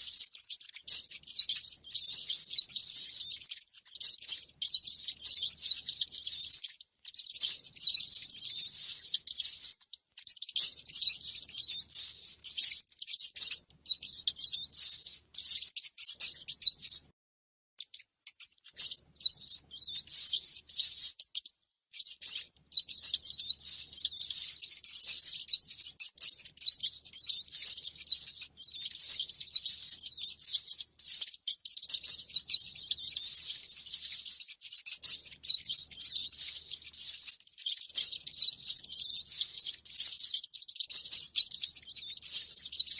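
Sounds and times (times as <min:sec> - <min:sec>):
rats squeaking: 0:00.0 - 0:17.1, 0:17.8 - 0:42.9.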